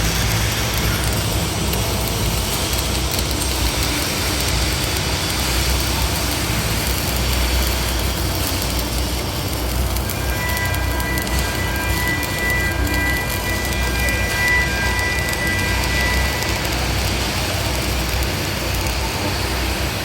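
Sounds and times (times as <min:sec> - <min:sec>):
welding arc crackling and hissing: 0:00.0 - 0:20.0.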